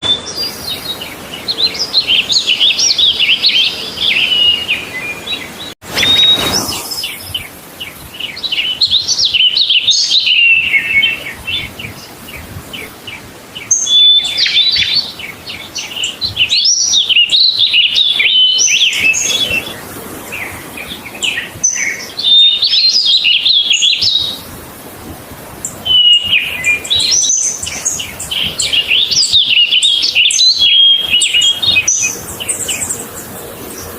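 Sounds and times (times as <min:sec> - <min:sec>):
songbird warbling and chirping: 0:00.0 - 0:24.5, 0:25.6 - 0:33.9.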